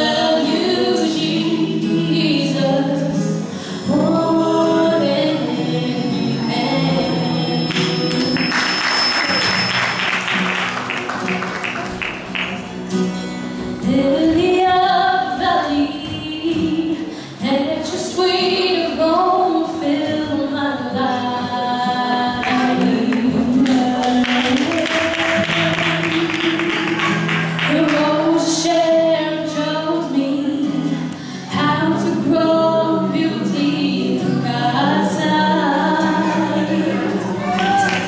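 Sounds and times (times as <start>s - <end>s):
woman and man singing: 0.0s - 9.1s, 13.8s - 38.0s
acoustic guitar strumming: 0.0s - 38.0s.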